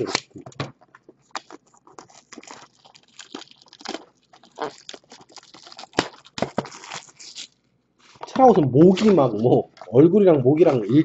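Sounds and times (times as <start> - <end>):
plastic shrink wrap crinkling: 0.0 - 11.0.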